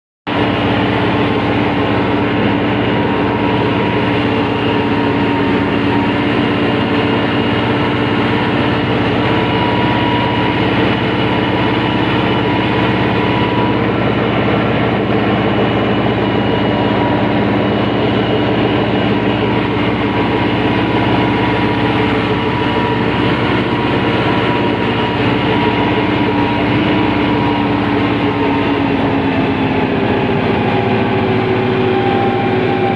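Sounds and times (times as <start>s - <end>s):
tractor engine running: 0.3s - 32.9s.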